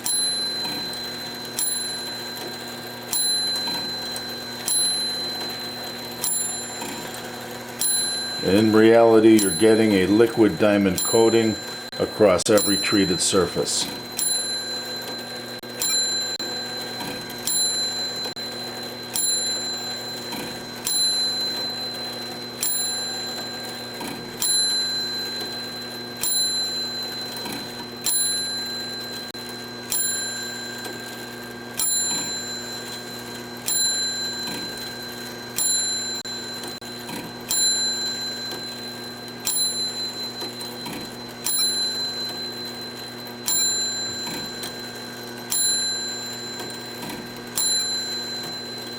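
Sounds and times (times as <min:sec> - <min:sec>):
mechanical clock ticking: 0:00.0 - 0:48.9.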